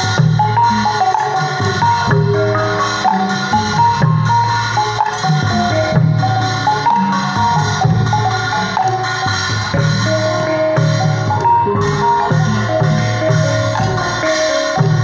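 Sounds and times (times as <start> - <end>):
gong chime melody: 0.0 - 15.0
low drum beats: 0.0 - 15.0.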